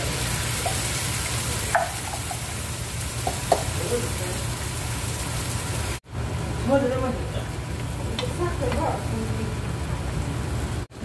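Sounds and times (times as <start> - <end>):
onions sizzling in oil: 0.0 - 10.8.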